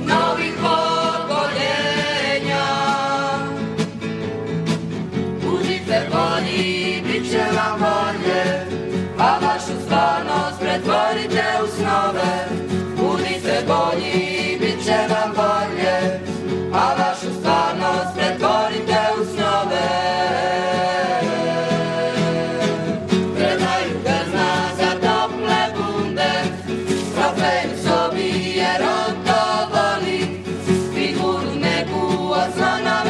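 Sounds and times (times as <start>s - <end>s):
young voices singing together: 0.0s - 4.0s, 5.3s - 33.0s
acoustic guitars: 0.0s - 33.0s.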